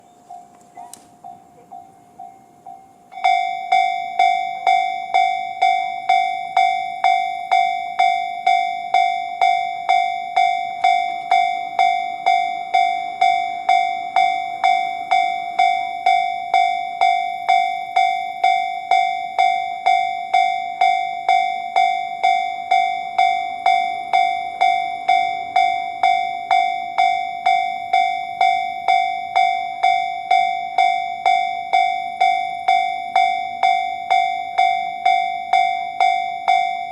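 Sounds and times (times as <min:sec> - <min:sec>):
level crossing warning bell: 0:00.0 - 0:36.9.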